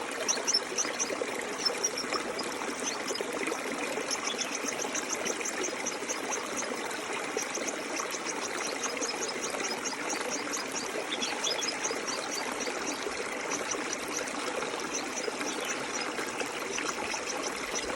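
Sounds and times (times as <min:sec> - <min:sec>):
stream flowing: 0:00.0 - 0:17.9.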